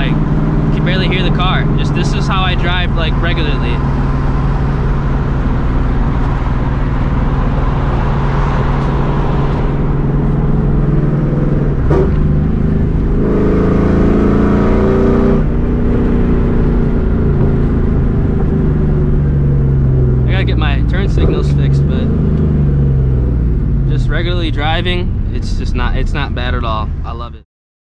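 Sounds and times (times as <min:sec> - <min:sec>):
car engine cruising: 0:00.0 - 0:27.4.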